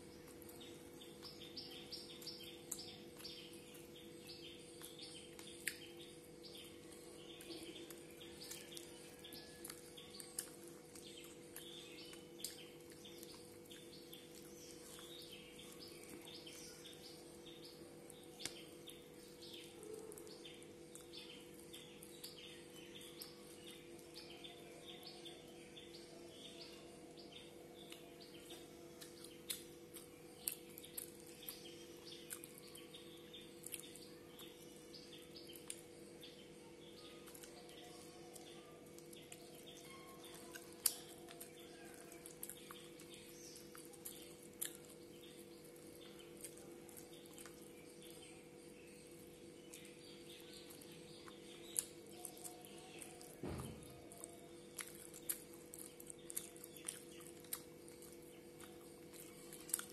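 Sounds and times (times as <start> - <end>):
faint birds chirping: 0.0 - 59.9
low steady hum: 0.0 - 59.9.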